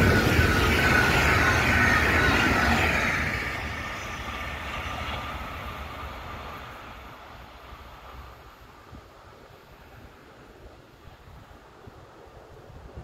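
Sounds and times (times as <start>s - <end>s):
passing train rumble and whine: 0.0s - 13.0s.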